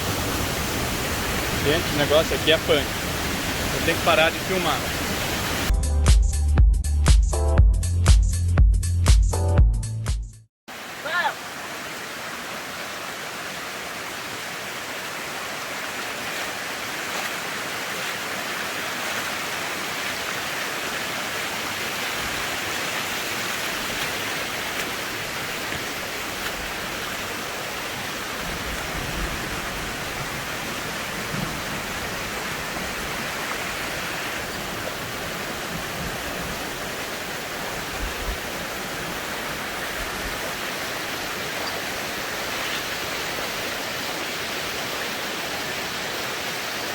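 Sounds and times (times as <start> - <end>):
waterfall rushing: 0.0 - 5.7, 10.7 - 46.9.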